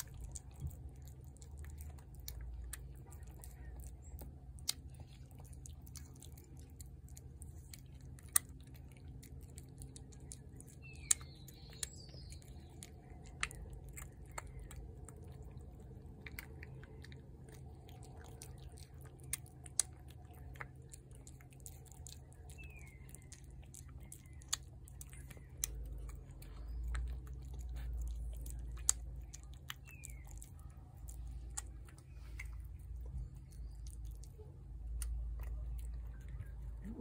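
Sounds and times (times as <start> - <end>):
cat chewing wet food: 0.0 - 37.0
low rumble: 0.0 - 37.0.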